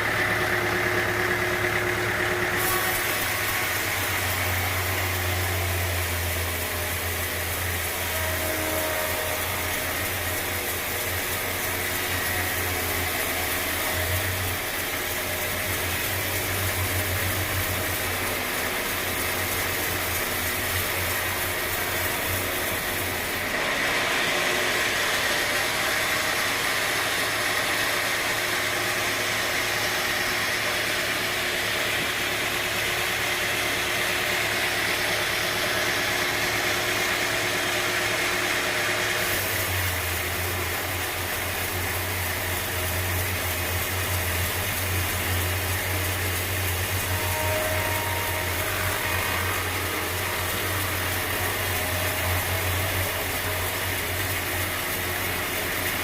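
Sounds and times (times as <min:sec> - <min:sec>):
engine-driven machinery humming: 0:00.0 - 0:56.0.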